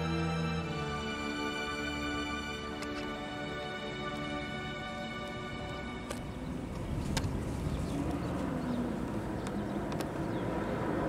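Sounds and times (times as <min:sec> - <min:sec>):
low outdoor rumble: 0:00.6 - 0:11.0.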